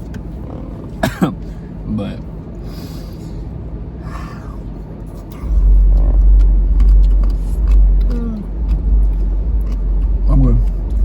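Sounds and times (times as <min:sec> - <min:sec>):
deep steady rumble: 0:00.0 - 0:11.0.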